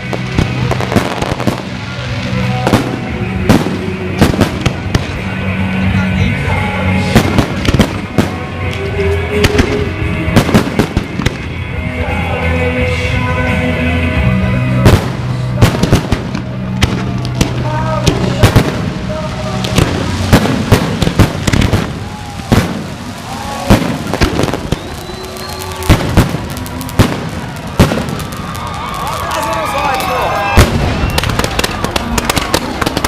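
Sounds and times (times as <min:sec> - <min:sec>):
fireworks bangs: 0:00.0 - 0:11.8, 0:14.7 - 0:33.0
music playing: 0:00.0 - 0:33.0.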